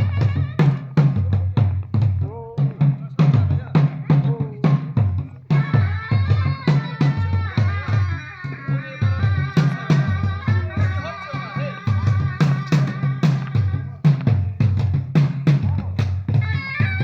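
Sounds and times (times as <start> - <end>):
steady drum beats: 0.0 - 17.0.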